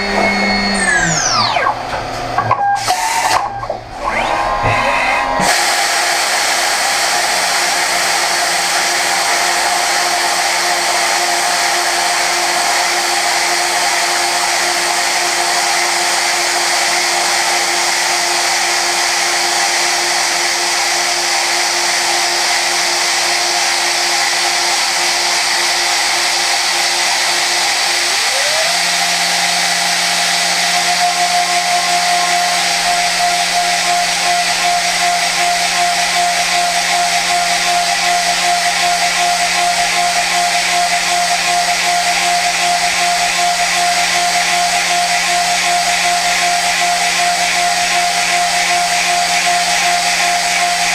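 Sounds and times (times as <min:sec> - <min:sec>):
milling machine cutting whine: 0:00.0 - 0:50.9.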